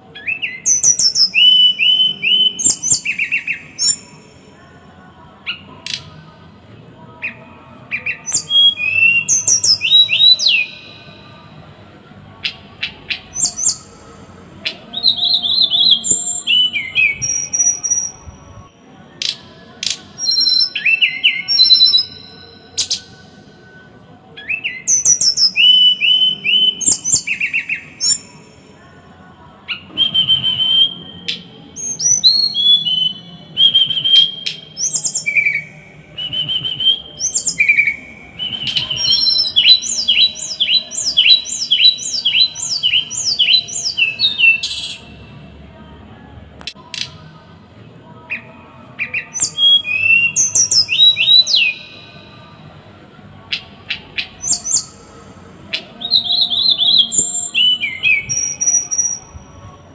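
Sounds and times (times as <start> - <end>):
small songbird singing: 0.2 - 4.6, 7.1 - 11.3, 12.4 - 23.3, 24.4 - 28.7, 29.7 - 45.3, 48.2 - 52.4, 53.5 - 59.4.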